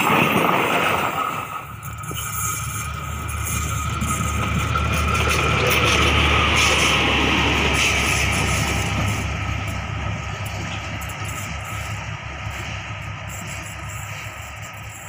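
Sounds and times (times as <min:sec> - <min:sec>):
wheels on rails: 0:00.0 - 0:15.0
diesel engine humming: 0:01.6 - 0:15.0.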